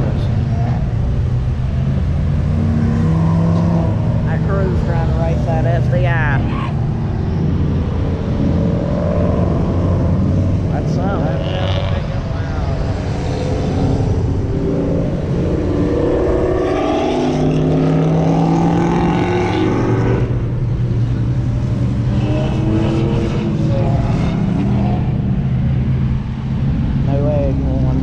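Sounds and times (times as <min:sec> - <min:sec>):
car and truck engines: 0:00.0 - 0:28.0
vehicle accelerating past: 0:00.0 - 0:28.0.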